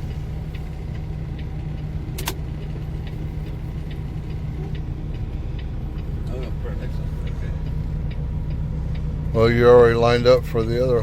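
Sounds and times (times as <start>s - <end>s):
diesel engine running: 0.0s - 11.0s
light ticks: 0.1s - 11.0s.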